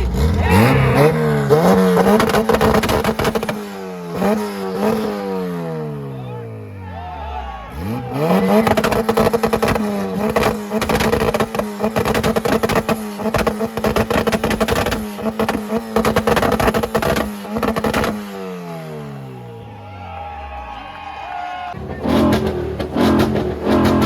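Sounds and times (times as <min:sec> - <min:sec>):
car engine revving: 0:00.0 - 0:06.8, 0:07.6 - 0:19.6, 0:21.7 - 0:24.0.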